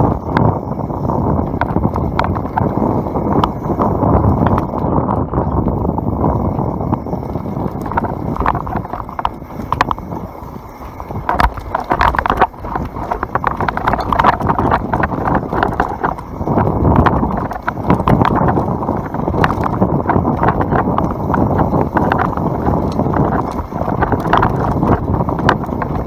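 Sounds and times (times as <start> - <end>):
bike clattering and rattling: 0.0 - 26.0.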